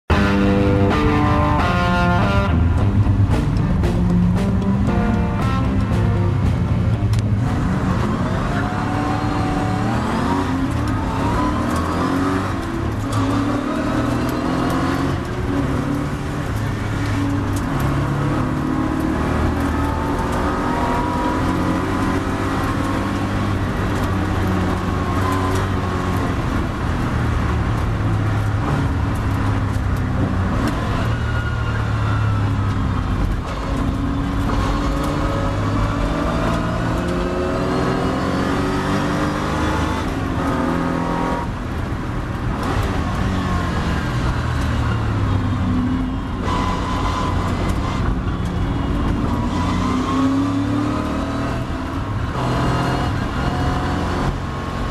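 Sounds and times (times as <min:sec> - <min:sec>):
race car engine accelerating: 0:00.1 - 0:54.9.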